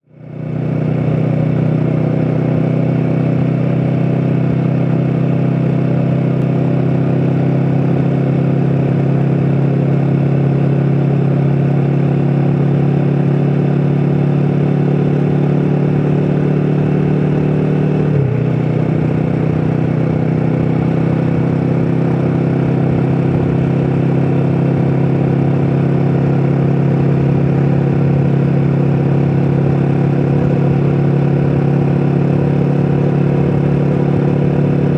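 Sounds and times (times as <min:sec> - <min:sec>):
motorcycle engine droning: 0:00.0 - 0:34.9.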